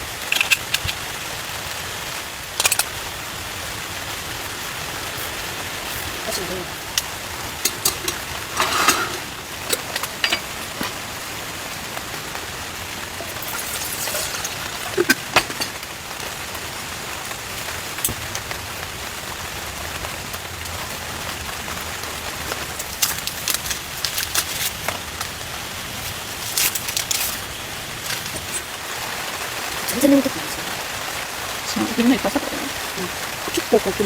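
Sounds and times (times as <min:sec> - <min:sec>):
rain on a shelter: 0:00.0 - 0:34.0.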